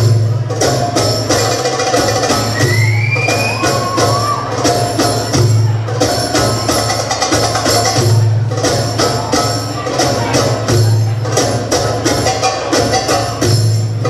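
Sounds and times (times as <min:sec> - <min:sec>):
hand drum solo music: 0:00.0 - 0:14.0.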